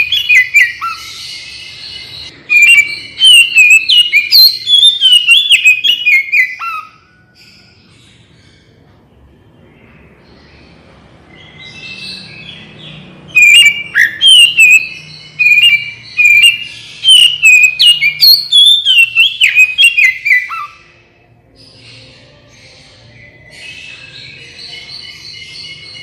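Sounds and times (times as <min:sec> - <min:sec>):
songbird singing whistled notes: 0:00.0 - 0:08.8, 0:09.5 - 0:26.0.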